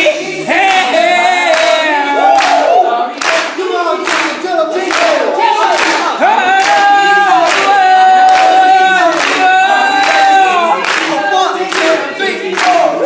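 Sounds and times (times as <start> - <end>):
male group singing a cappella: 0.0 - 13.0
hands clapping: 1.5 - 13.0.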